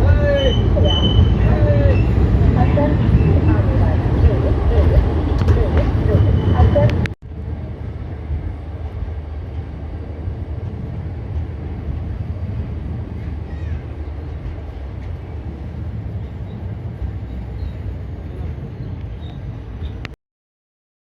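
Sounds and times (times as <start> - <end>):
train rumbling: 0.0 - 20.2.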